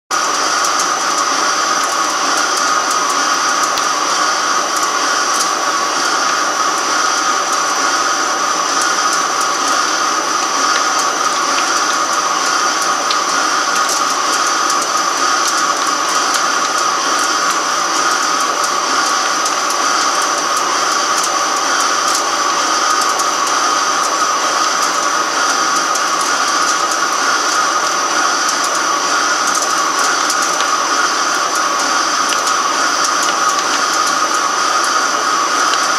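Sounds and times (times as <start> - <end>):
lathe machining metal: 0.1 - 35.9.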